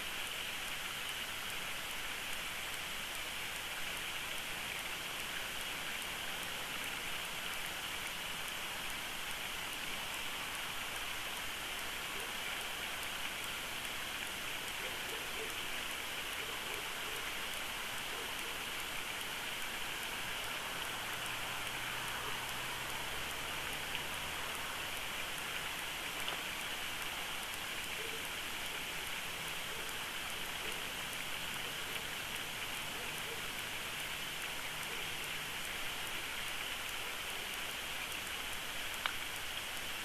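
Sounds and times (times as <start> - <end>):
steady outdoor hiss: 0.0 - 40.0.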